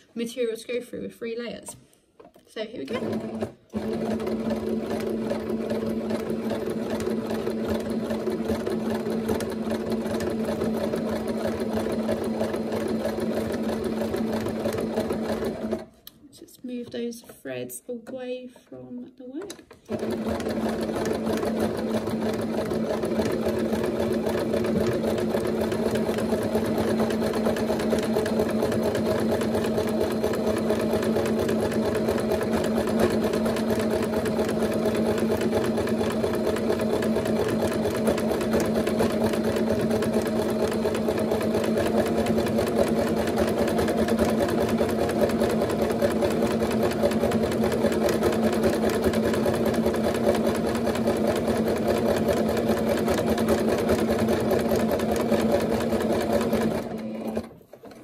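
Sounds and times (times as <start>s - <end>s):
sewing machine stitching: 2.3s - 16.0s, 18.0s - 58.0s.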